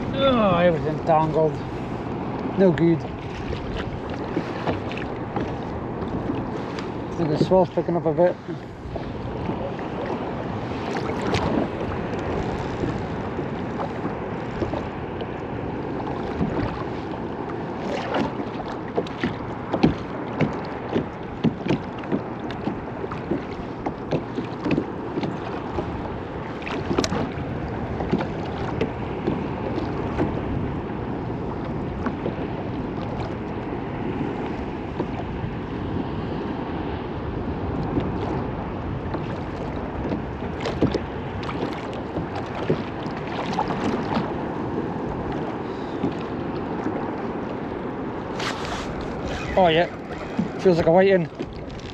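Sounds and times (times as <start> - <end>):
water lapping against kayak hull: 0.0 - 51.9
wind on microphone: 0.0 - 51.9.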